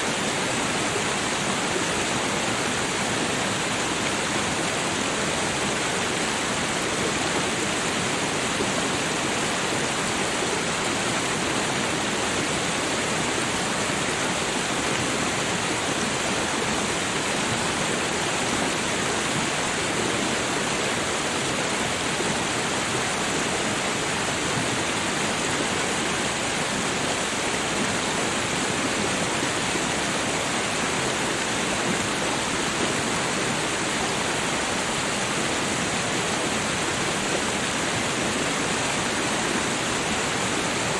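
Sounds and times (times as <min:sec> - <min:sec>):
creek water babbling: 0:00.0 - 0:40.9.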